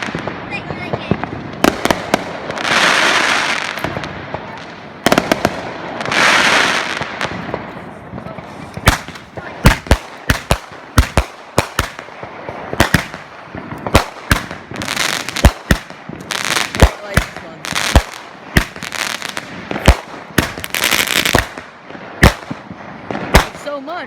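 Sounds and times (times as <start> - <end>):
firework sharp bangs: 0.0 - 24.0.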